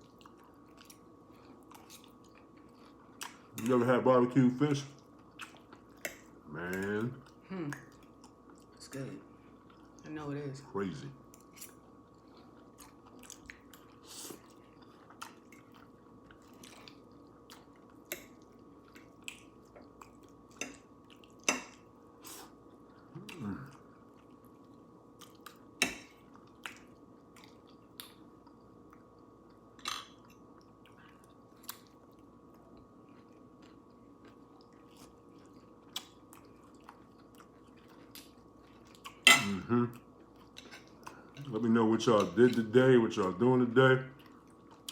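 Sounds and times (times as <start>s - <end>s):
person chewing: 0.0s - 3.7s, 5.0s - 8.8s, 11.3s - 41.5s, 44.2s - 44.9s
faint steady hum: 0.0s - 44.9s.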